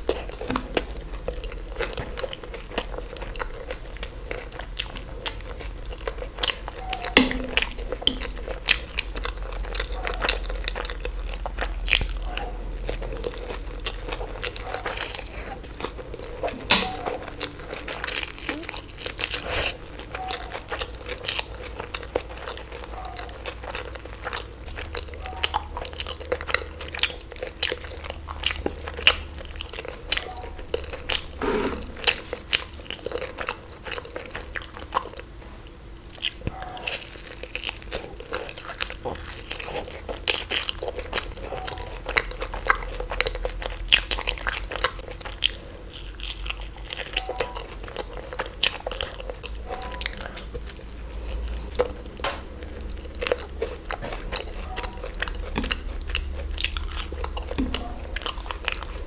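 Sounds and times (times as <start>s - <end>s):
eating bites crunches and chewing: 0.0s - 59.0s.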